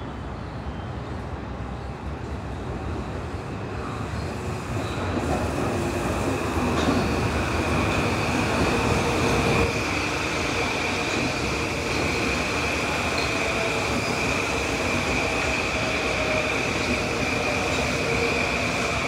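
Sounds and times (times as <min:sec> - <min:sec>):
train wheels rumbling on rail: 0:00.2 - 0:19.0.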